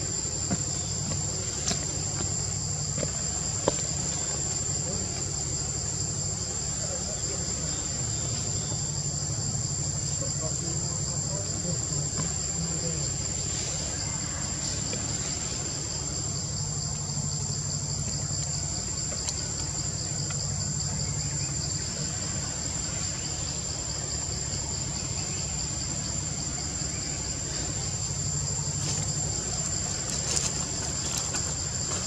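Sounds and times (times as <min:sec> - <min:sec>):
shrill insect trill: 0:00.0 - 0:32.0.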